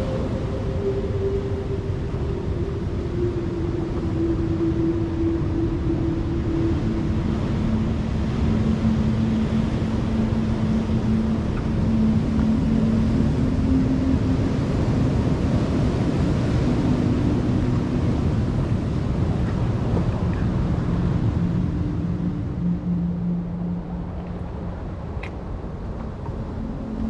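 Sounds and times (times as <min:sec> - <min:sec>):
ocean surf on rocky shore: 0:00.0 - 0:27.0.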